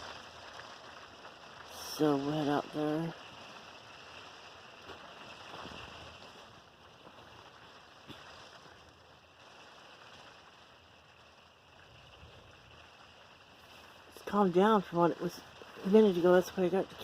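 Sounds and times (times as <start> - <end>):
rain on trailer roof: 0.0 - 17.0.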